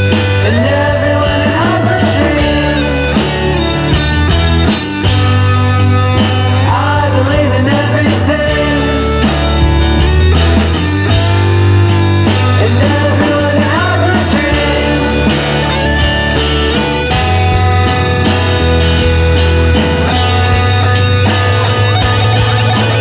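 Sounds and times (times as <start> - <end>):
rock music with guitars: 0.0 - 23.0.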